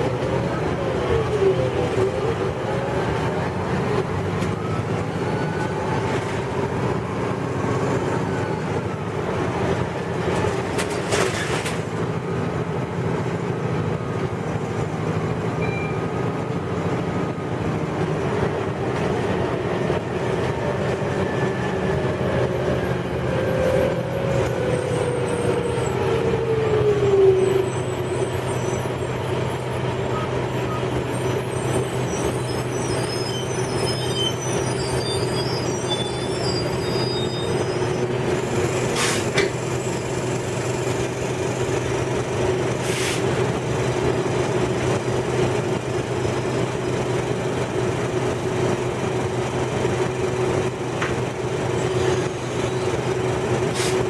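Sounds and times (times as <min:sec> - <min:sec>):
bus engine and road drone: 0:00.0 - 0:54.0.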